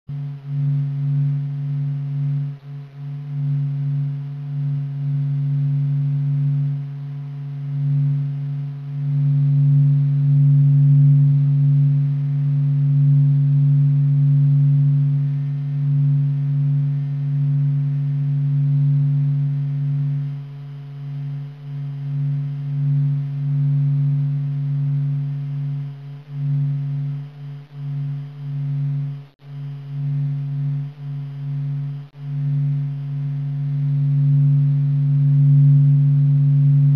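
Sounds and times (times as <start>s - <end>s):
low droning hum: 0.1s - 36.9s.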